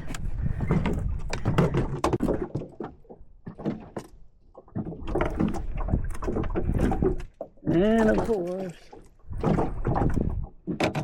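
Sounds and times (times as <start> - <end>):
knocks and rattles in a boat: 0.0 - 11.0.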